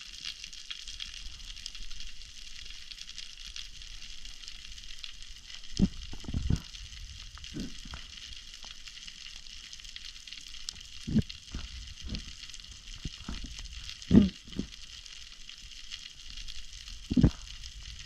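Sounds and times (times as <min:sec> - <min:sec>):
snapping shrimp crackling underwater: 0:00.0 - 0:18.0.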